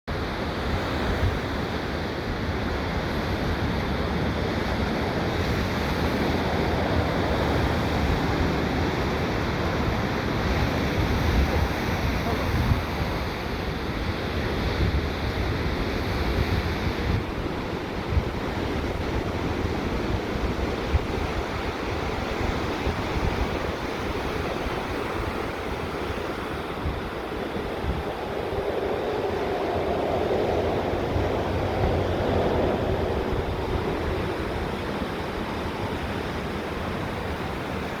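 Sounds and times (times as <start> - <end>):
ocean waves breaking on beach: 0.1 - 38.0
wind buffeting microphone: 0.1 - 38.0.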